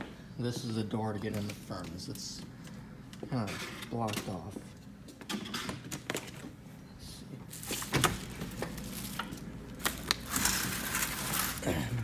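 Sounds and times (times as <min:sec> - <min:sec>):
furnace humming: 0:00.0 - 0:12.0.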